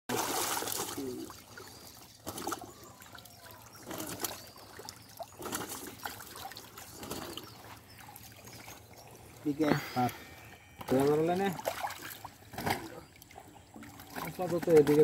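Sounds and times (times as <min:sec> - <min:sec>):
fish thrashing and splashing in water: 0:00.1 - 0:15.0.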